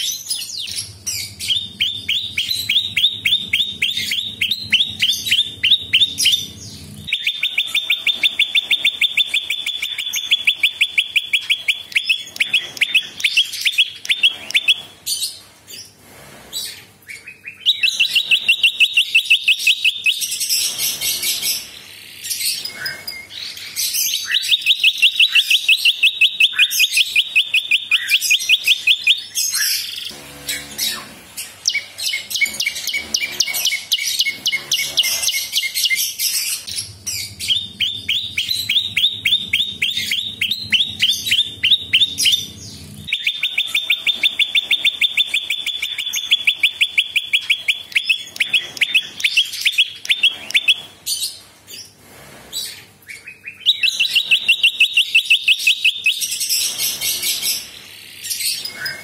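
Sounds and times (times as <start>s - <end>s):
bird singing high repeated notes: 0.0s - 15.0s, 17.1s - 51.0s
bird chirps: 0.0s - 51.9s, 52.6s - 59.0s.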